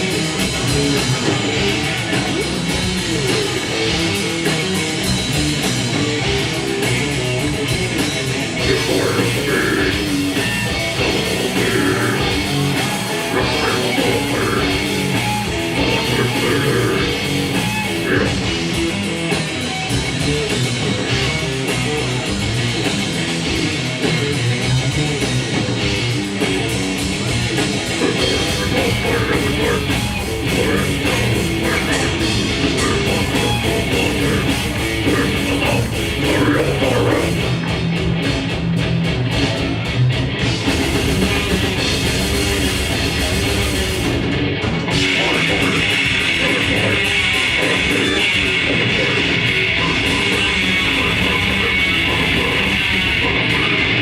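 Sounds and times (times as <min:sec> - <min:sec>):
grindcore band playing live: 0:00.0 - 0:54.0.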